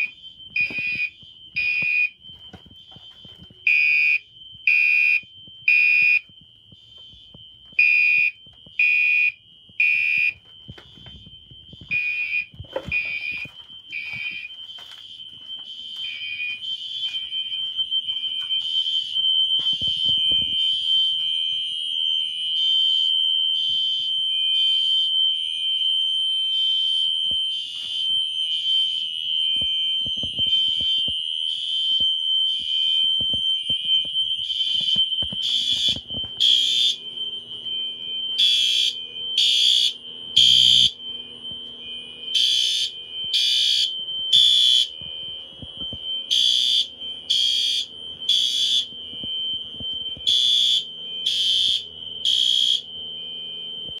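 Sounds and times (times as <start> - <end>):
fire alarm horn pulses: 0.0 - 54.0
high-pitched alarm tone: 0.0 - 54.0.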